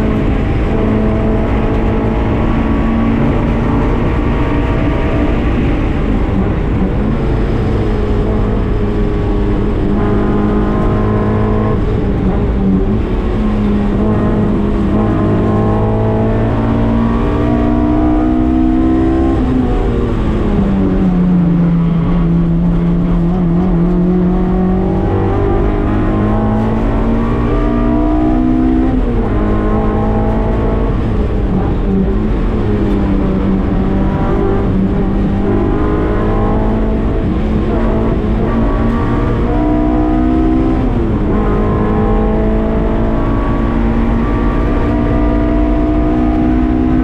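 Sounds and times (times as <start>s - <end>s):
car engine revving: 0.0s - 47.0s
road and wind noise: 0.0s - 47.0s.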